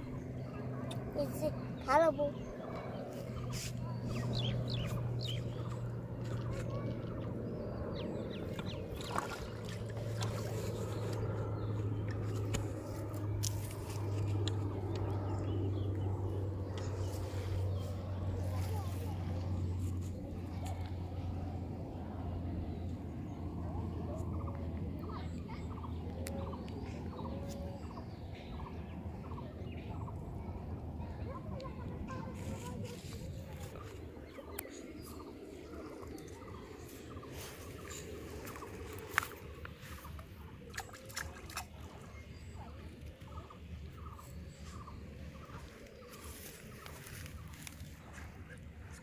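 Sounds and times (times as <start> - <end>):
distant motor humming: 0.0 - 49.0.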